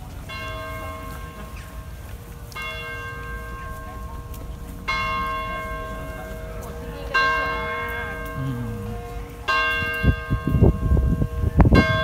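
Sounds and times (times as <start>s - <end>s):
church bell ringing: 0.0s - 12.0s
steady low rumble: 1.8s - 11.9s.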